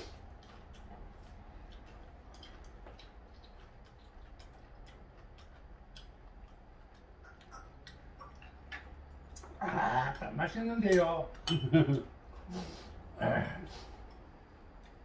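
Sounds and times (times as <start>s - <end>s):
low room hum: 0.0s - 15.0s
people chewing: 0.0s - 15.0s.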